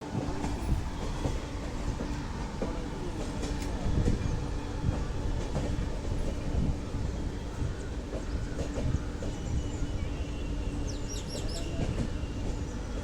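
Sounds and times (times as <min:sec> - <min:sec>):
train rumbling at low speed: 0:00.0 - 0:13.0.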